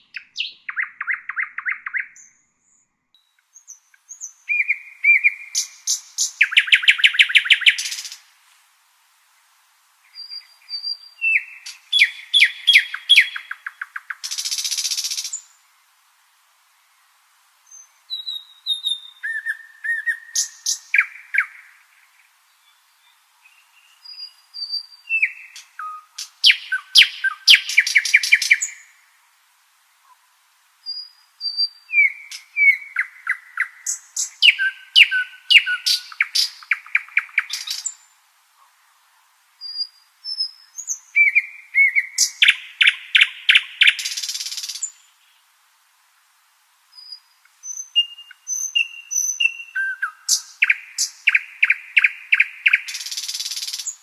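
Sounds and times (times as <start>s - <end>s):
nightingale singing: 0.0s - 8.4s, 9.3s - 15.9s, 16.8s - 29.2s, 30.0s - 45.6s, 46.9s - 54.0s.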